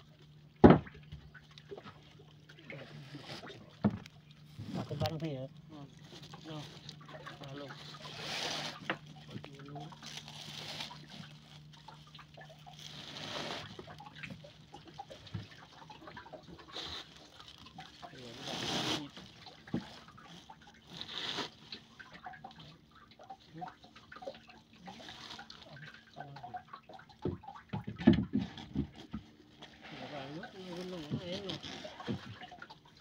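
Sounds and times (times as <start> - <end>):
water dripping and splashing: 0.0 - 33.0
wet net hauled into boat: 0.6 - 33.0.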